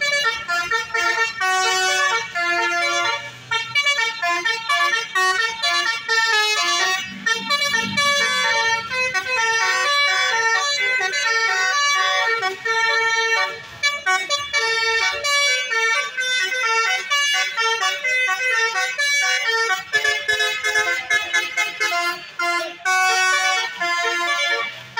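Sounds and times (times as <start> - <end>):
bus multi-tone horn tune: 0.0 - 24.9.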